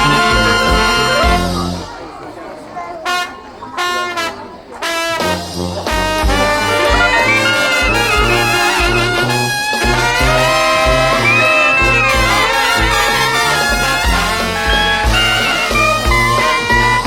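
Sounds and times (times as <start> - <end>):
brass jazz band playing: 0.0 - 2.0, 3.0 - 17.0.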